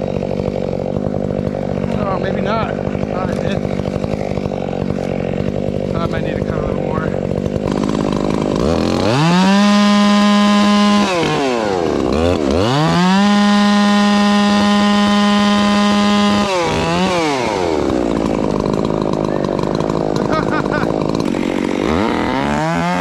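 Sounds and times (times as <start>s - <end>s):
chainsaw idling and revving: 0.0s - 23.0s.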